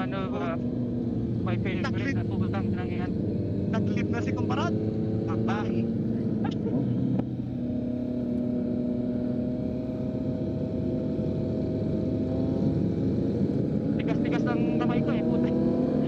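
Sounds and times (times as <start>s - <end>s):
motorcycle engine on road: 0.0s - 16.0s.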